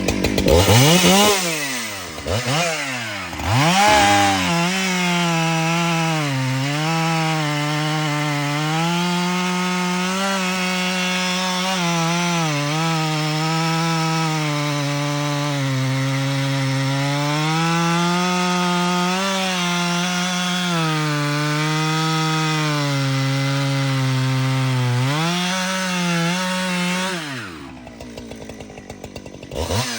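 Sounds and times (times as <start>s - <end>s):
chainsaw cutting log: 0.0s - 29.9s.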